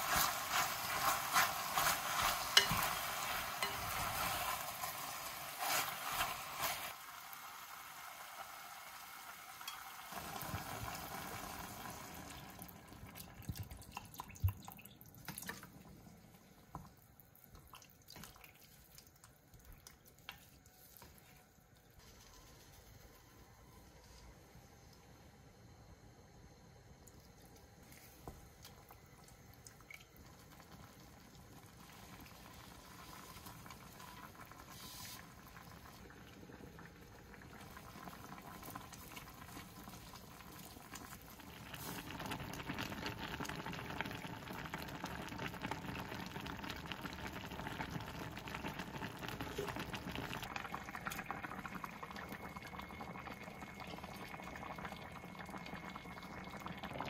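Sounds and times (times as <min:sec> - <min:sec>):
stew bubbling in a pot: 0:00.0 - 0:22.0, 0:26.8 - 0:57.0.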